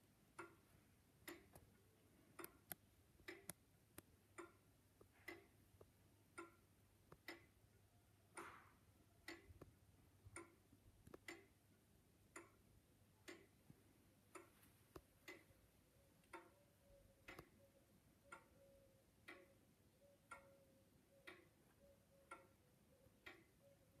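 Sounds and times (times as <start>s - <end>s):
pendulum clock ticking: 0.0s - 24.0s.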